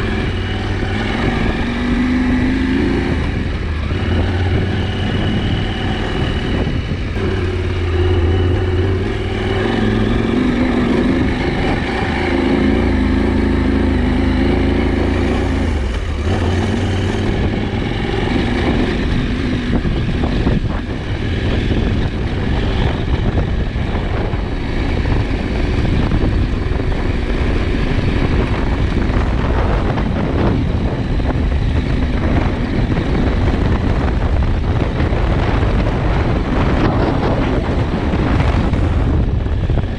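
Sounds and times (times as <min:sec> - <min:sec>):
motorcycle engine running: 0:00.0 - 0:39.9
rough rumbling noise: 0:00.0 - 0:39.9.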